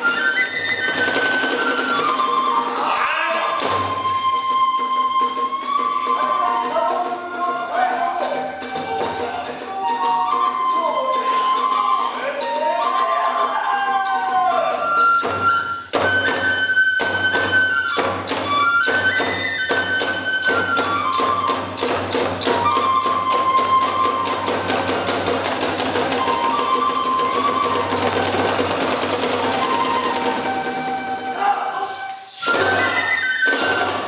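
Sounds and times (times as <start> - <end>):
bamboo flute melody: 0.0 - 34.0.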